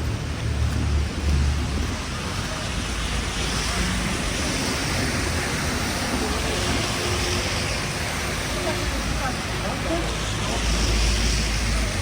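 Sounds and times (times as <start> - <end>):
rushing street noise: 0.0 - 12.0.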